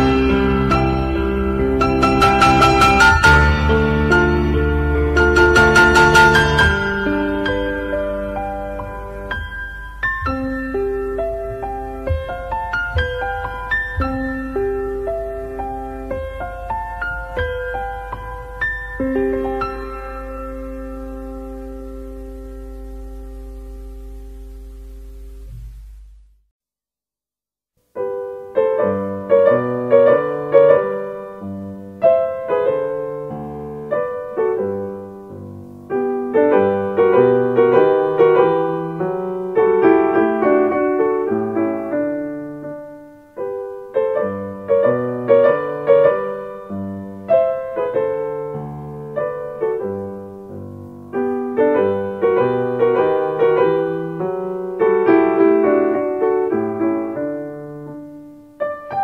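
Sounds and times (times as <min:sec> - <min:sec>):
gentle piano music: 0:00.0 - 0:25.7, 0:27.8 - 0:59.0.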